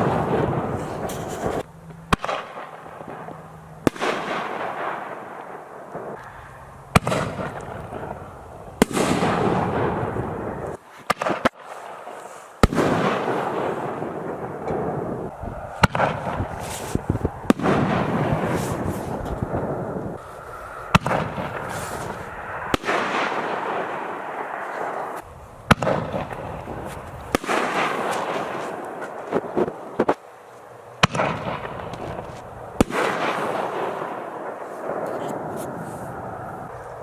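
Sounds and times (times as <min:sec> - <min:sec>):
fireworks crackle and hiss: 0:00.0 - 0:37.0.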